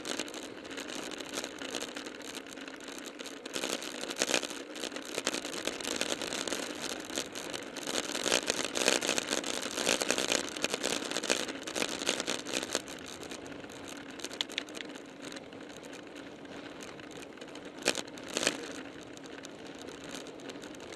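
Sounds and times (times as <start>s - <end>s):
road noise: 0.0s - 20.9s.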